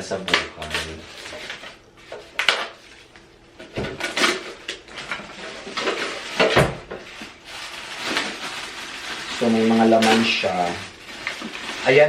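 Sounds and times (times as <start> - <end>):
mini fridge parts knocking and rattling: 0.0 - 7.3, 7.9 - 12.0.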